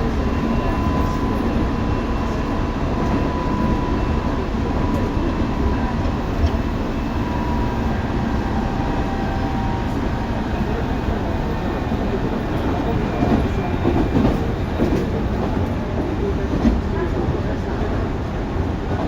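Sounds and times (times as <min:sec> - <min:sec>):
electric train wheels rumbling: 0:00.0 - 0:19.0.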